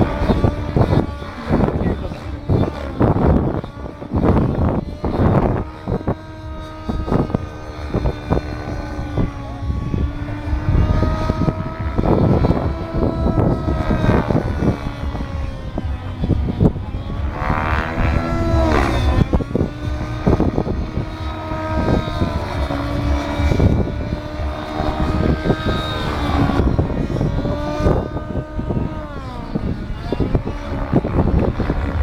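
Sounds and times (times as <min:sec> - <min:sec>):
model aircraft motor: 0:00.0 - 0:32.0
wind buffeting microphone: 0:00.0 - 0:32.0.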